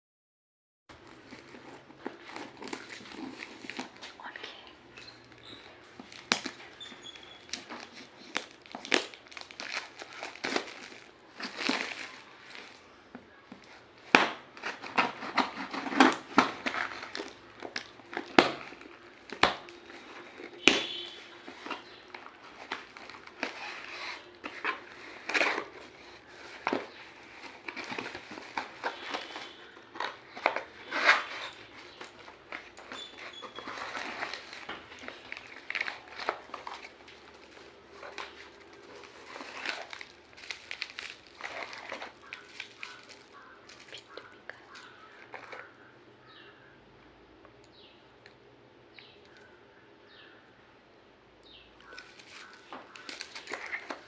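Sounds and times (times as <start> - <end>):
plastic and paper crinkling: 0.9 - 45.9, 51.8 - 54.0.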